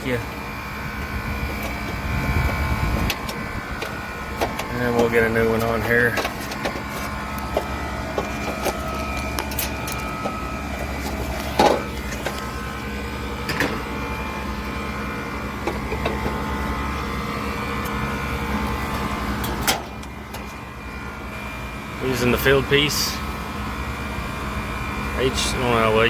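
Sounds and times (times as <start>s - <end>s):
hvac machinery hum: 0.0s - 26.0s.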